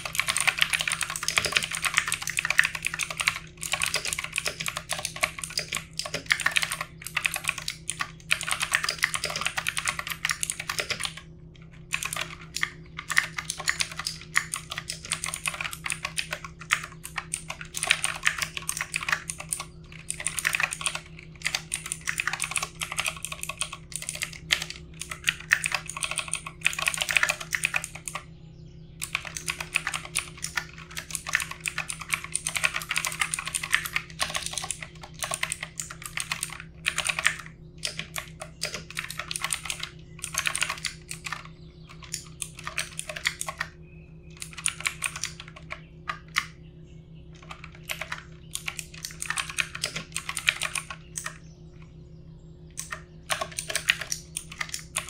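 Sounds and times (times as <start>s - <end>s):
mechanical keyboard typing: 0.0s - 11.2s, 11.8s - 28.2s, 29.0s - 43.7s, 44.3s - 46.6s, 47.4s - 51.4s, 52.7s - 55.0s
faint steady hum: 0.0s - 55.0s.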